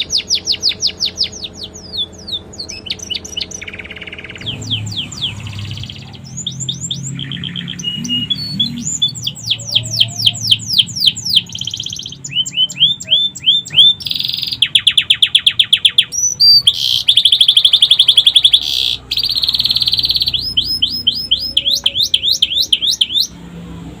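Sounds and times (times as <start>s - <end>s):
canary singing trilled phrases: 0.0s - 23.4s.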